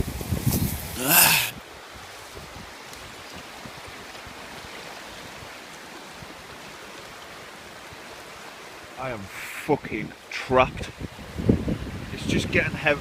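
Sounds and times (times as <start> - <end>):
flooded river rushing: 0.8 - 13.0.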